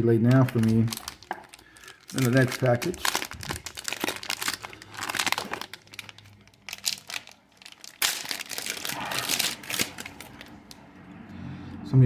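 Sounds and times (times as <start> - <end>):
wax paper wrapper crinkling: 0.0 - 10.8.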